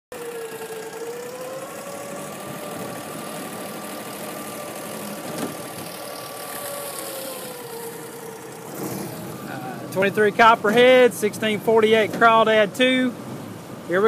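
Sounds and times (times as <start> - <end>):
boat motor idling: 0.1 - 14.0.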